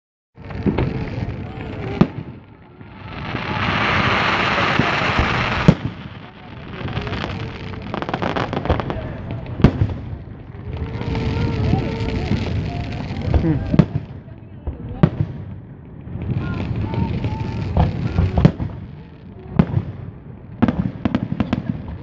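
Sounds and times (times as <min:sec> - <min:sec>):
fireworks bursting and crackling: 0:00.4 - 0:22.0.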